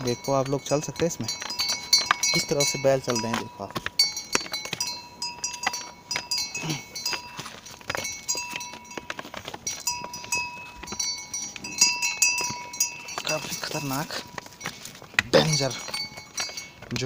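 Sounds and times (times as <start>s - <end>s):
cattle bells ringing: 0.0s - 17.0s.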